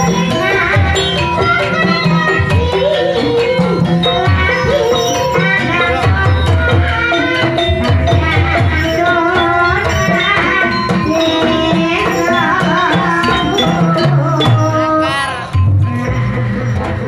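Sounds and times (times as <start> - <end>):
hand-drum strokes: 0.0 - 17.0
metallophone tones: 0.0 - 17.0
wavering melody line: 0.0 - 17.0.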